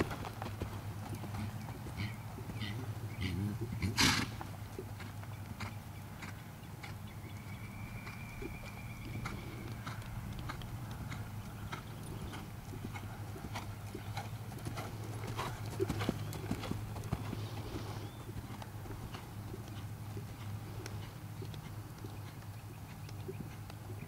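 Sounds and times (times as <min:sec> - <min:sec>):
horse hoofbeats on grass: 0:00.0 - 0:24.0.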